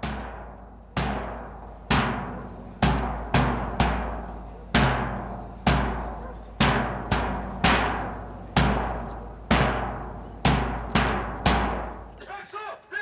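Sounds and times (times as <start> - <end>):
heavy drum beats booming: 0.0 - 12.2.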